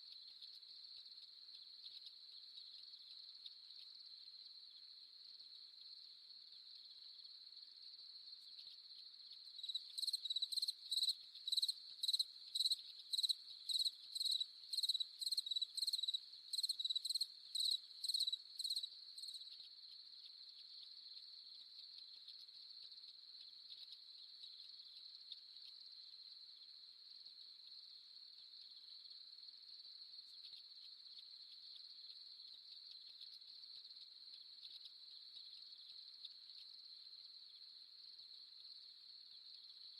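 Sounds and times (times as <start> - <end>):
chorus of crickets trilling: 0.0 - 39.9
nearby cricket chirping: 0.0 - 39.9.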